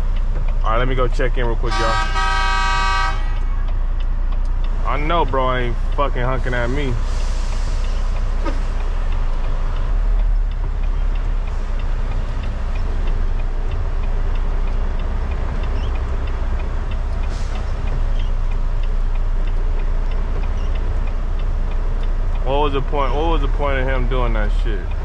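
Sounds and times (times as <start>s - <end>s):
diesel engine idling: 0.0s - 25.0s
faint regular ticking: 0.0s - 25.0s.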